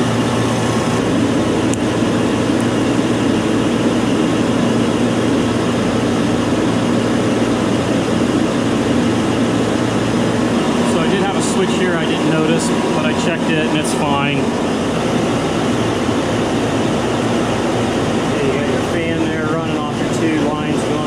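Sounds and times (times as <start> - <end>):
compressors humming: 0.0 - 21.0
condenser fans blowing: 0.0 - 21.0.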